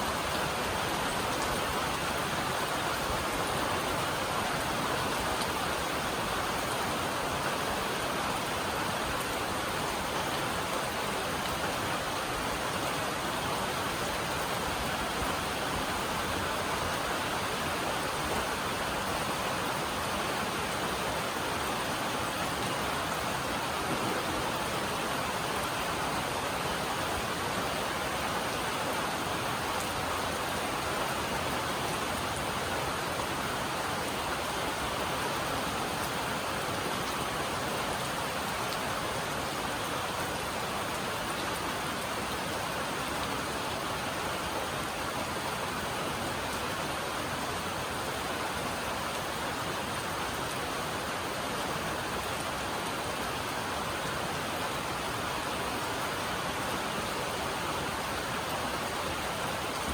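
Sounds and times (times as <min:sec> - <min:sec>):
heavy rain on metal roof: 0:00.0 - 0:59.9.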